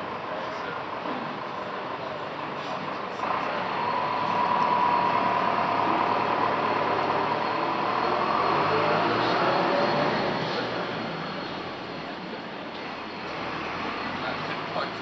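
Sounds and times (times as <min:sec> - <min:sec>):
engine drone with whine: 0:00.0 - 0:15.0.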